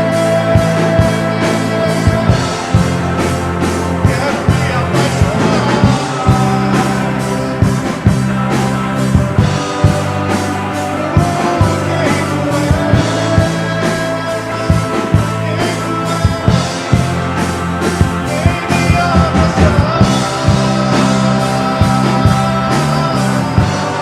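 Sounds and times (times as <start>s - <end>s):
bass and guitar: 0.0s - 24.0s
drum kit beat: 0.0s - 24.0s
person singing: 0.0s - 24.0s.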